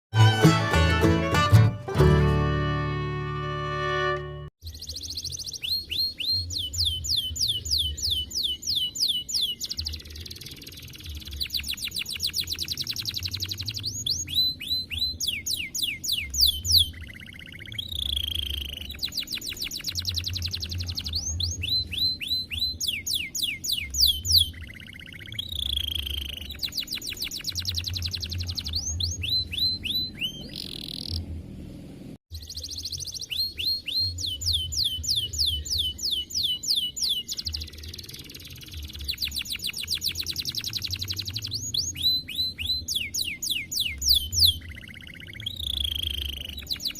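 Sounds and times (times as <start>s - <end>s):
canary singing trills: 4.6s - 31.3s, 32.3s - 46.9s.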